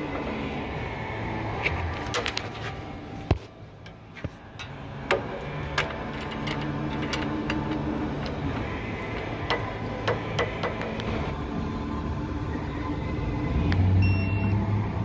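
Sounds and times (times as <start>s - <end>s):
car engine low hum: 0.0s - 15.0s.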